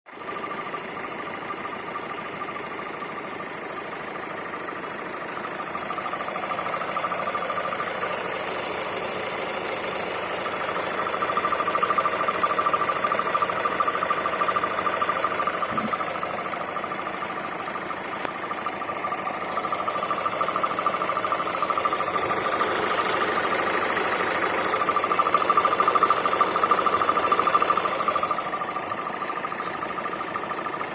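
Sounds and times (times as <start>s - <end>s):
diesel engine running: 0.1s - 30.9s
steady engine whine: 0.2s - 30.9s.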